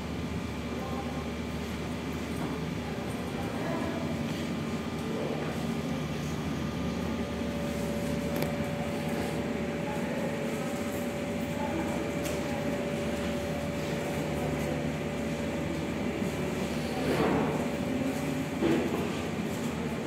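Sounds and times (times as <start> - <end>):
electric fan humming: 0.0 - 20.0.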